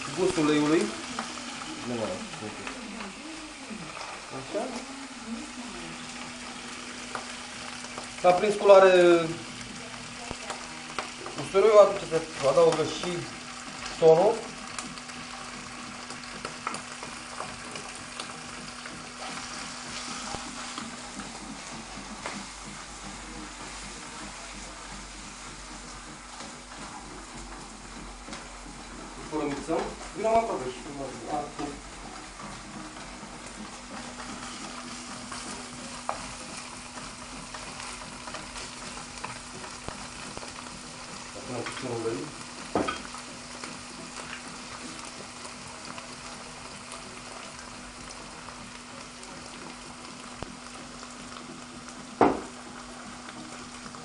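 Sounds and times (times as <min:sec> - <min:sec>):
oil sizzling in a frying pan: 0:00.0 - 0:54.0.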